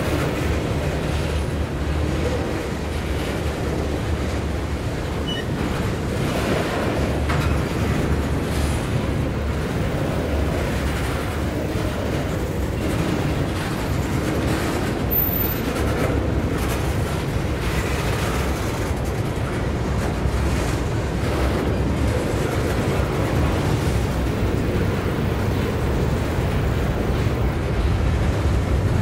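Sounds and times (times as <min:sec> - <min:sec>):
freight train wheels rumbling: 0:00.0 - 0:29.0.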